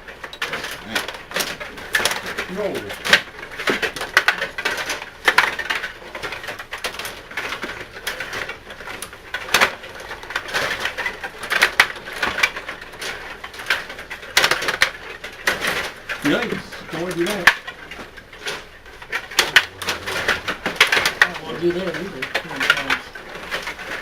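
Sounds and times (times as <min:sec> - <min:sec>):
rod hockey rods clacking and rattling: 0:00.0 - 0:24.0.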